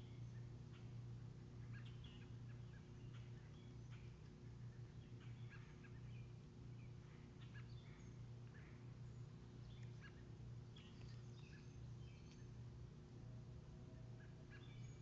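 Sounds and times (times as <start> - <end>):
distant birds chirping: 0.0 - 12.9, 13.9 - 15.0
steady low hum: 0.0 - 15.0.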